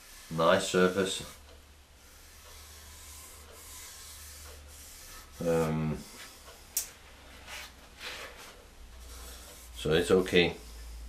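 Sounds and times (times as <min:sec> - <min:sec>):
palm brushing on wood: 0:00.0 - 0:01.4, 0:02.0 - 0:11.0.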